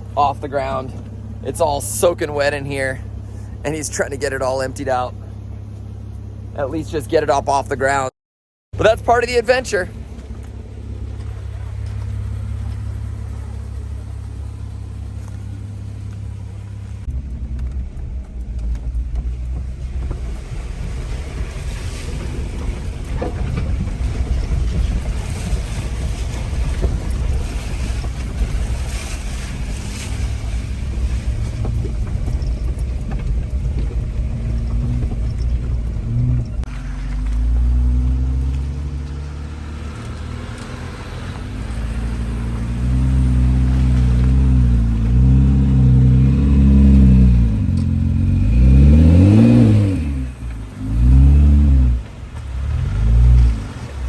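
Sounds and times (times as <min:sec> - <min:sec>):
car driving off: 0:00.0 - 0:08.0, 0:08.8 - 0:54.0
car engine running: 0:00.0 - 0:08.1, 0:08.8 - 0:54.0.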